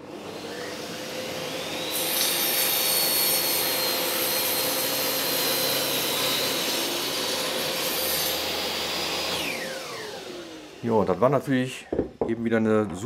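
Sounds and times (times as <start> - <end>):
table saw cutting wood: 0.0 - 12.0.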